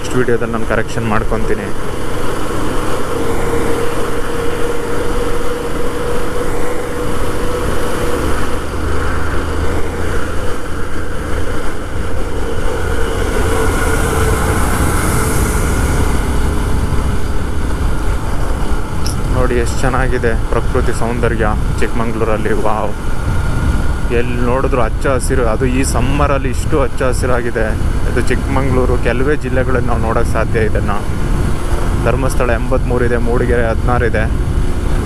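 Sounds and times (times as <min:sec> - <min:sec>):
motorcycle running: 0:00.0 - 0:35.0
wind rush over microphone: 0:00.0 - 0:35.0.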